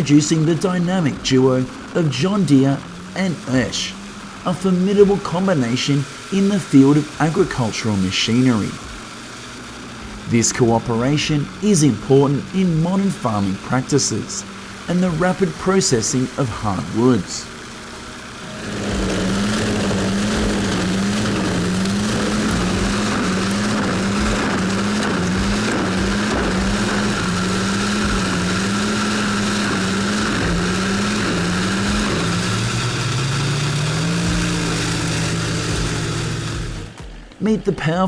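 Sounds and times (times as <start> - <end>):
wood chipper running: 0.0 - 38.0.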